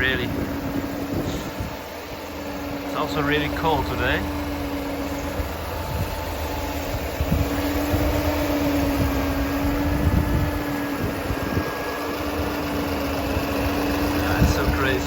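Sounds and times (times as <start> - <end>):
car engine idling: 0.0 - 15.0
wind buffeting microphone: 0.0 - 15.0.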